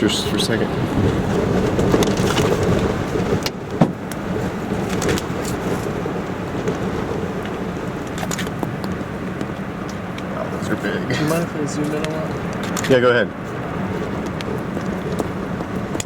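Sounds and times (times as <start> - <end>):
rain and wind: 0.0 - 16.0.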